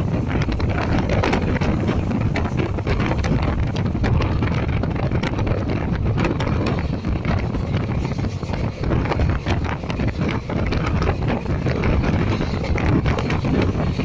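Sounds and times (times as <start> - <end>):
moving train rumble: 0.0 - 14.0
wind buffeting microphone: 0.0 - 14.0.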